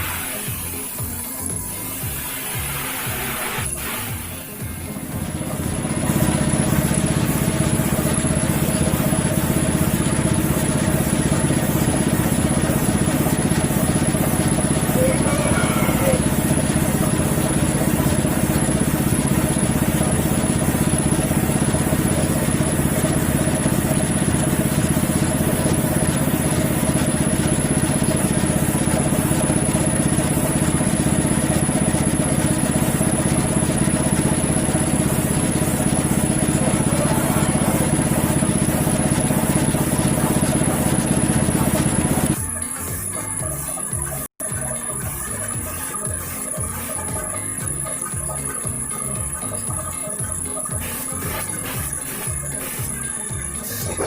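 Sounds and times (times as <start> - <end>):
air compressor running: 0.0 - 54.0.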